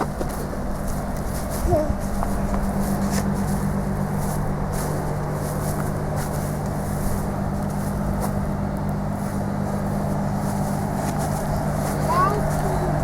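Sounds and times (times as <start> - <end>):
car engine hum: 0.0 - 13.0.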